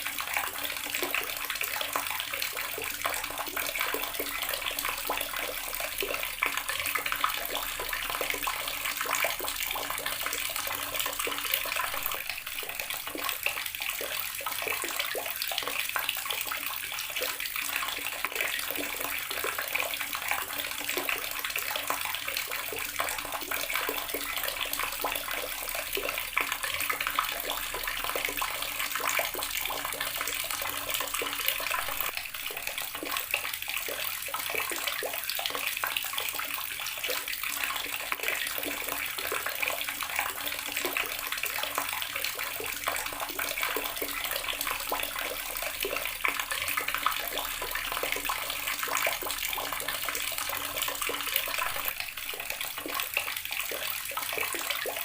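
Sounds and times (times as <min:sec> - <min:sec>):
water tap running and splashing: 0:00.0 - 0:55.0.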